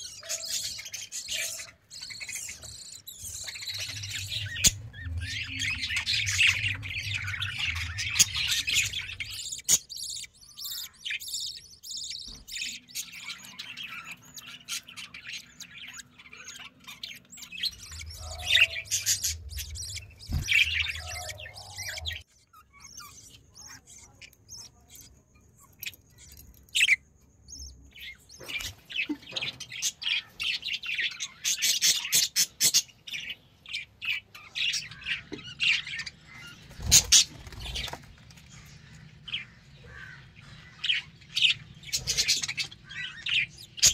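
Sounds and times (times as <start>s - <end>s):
budgerigars chirping: 0.0s - 43.9s.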